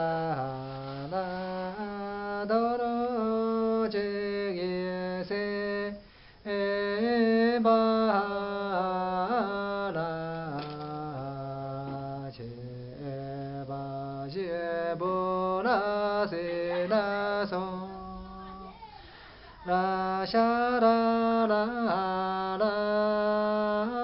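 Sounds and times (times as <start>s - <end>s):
man chanting unaccompanied: 0.0s - 18.8s, 19.6s - 24.0s.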